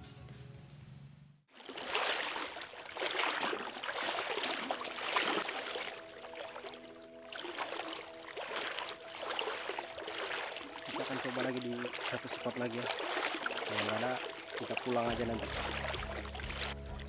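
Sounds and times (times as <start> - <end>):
water sloshing around wading legs: 1.5 - 17.0.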